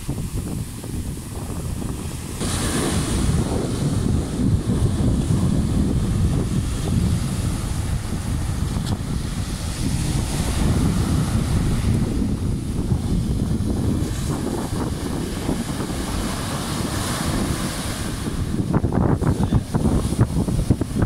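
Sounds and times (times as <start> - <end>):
wind buffeting microphone: 0.0 - 21.0
small waves breaking: 1.3 - 21.0.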